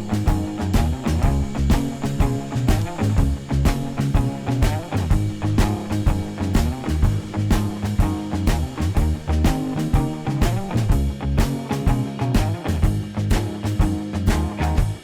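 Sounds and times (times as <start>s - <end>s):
background music with guitar and bass: 0.0s - 15.0s.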